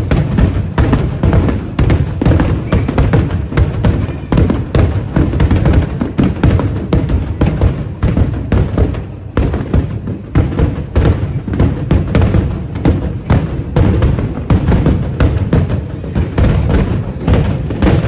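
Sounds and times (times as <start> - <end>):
fireworks bursting with low thuds: 0.0 - 18.0.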